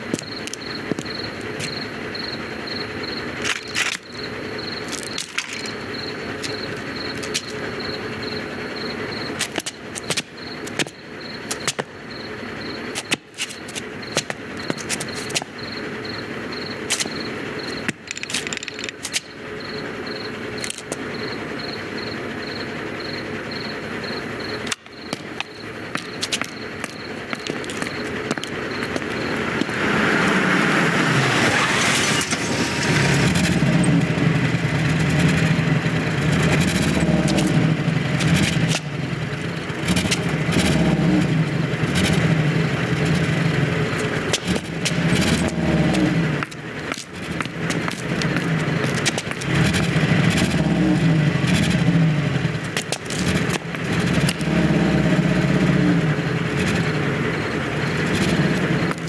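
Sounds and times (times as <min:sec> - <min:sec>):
vehicle engine starting: 0:00.0 - 0:59.0.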